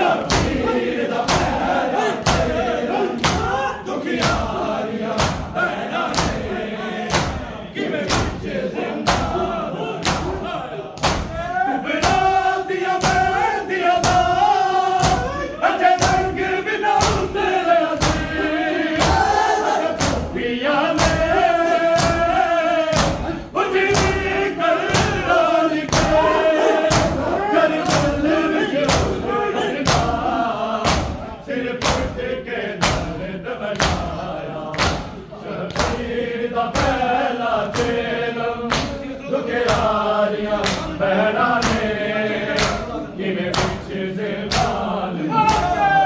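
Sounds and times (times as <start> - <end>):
men chanting together: 0.0 - 46.0
rhythmic chest-beating thuds: 0.0 - 46.0.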